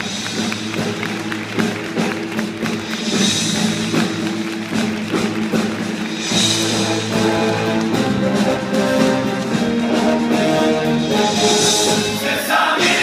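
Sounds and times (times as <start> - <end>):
theatre orchestra playing: 0.0 - 13.0.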